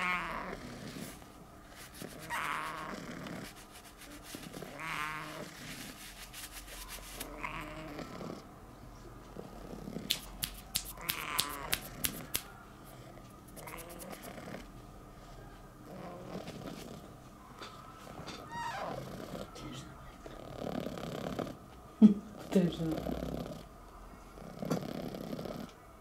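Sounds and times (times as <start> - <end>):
cat purring: 0.0 - 8.5, 9.3 - 12.3, 12.9 - 17.1, 18.8 - 21.6, 22.3 - 25.8.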